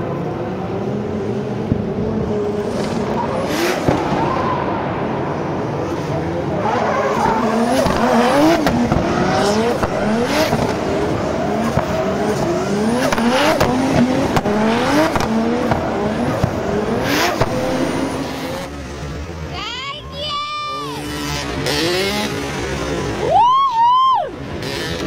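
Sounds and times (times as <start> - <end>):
car engines revving hard: 0.0 - 19.6, 20.5 - 23.4, 24.2 - 25.0
tyres squealing and skidding: 2.3 - 4.8, 5.7 - 25.0.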